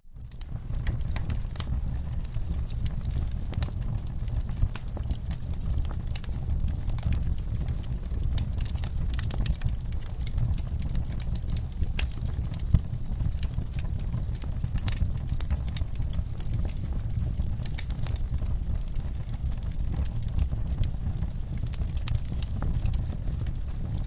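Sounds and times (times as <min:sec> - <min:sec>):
low rumble of flames: 0:00.0 - 0:24.0
wood fire crackling and popping: 0:00.0 - 0:24.0.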